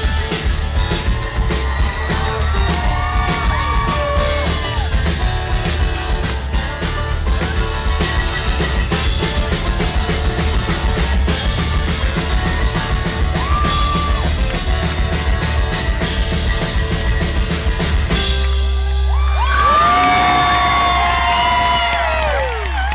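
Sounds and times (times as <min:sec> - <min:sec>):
crowd yelling and whooping: 0:00.0 - 0:17.3, 0:18.1 - 0:22.9
rock band playing live: 0:00.0 - 0:22.4.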